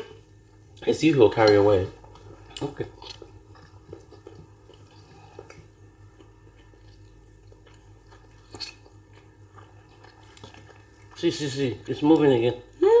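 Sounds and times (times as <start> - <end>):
chewing and wet mouth sounds: 0.3 - 12.8.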